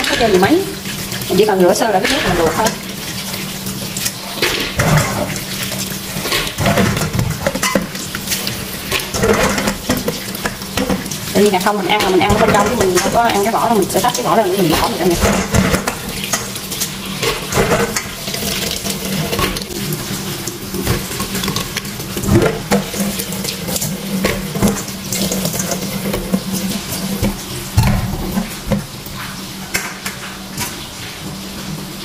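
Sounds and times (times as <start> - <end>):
tap water running into sink: 0.0 - 32.0.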